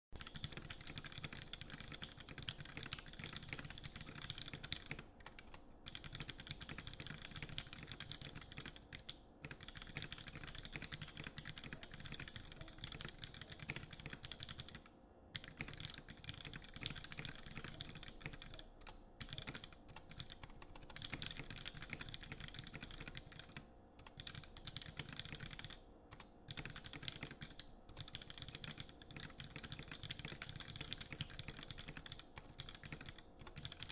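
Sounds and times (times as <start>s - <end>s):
fast mechanical keyboard typing: 0.2s - 33.9s.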